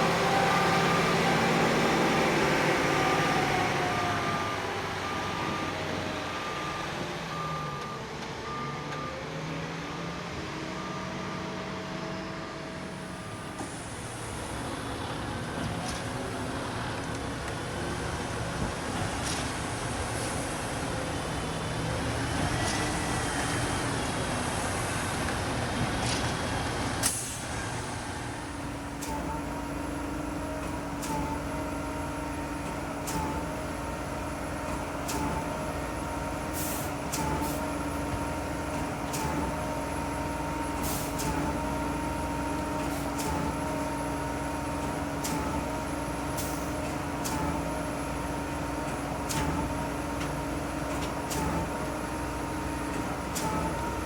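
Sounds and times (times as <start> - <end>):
concrete mixer truck running: 0.0 - 54.0.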